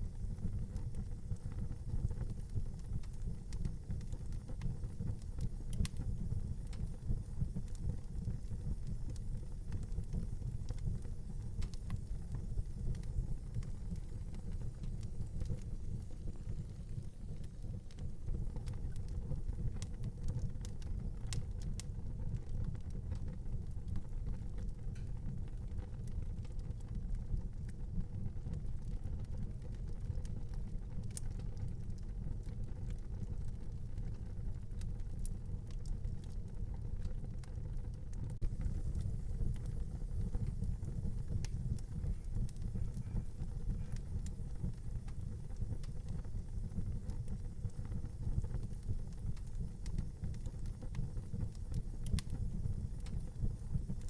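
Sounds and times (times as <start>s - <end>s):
wood fire crackling: 0.0s - 54.0s
fire pops: 0.1s - 54.0s.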